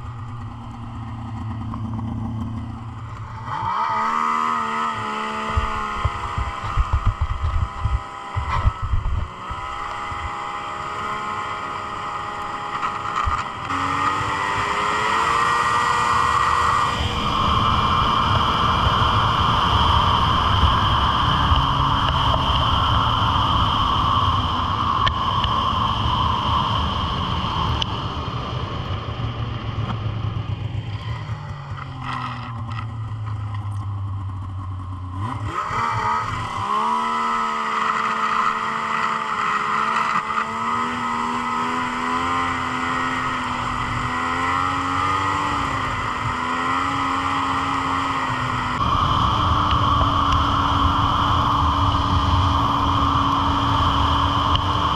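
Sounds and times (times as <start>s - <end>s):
snowmobile engine revving: 0.0s - 29.2s, 34.8s - 54.9s.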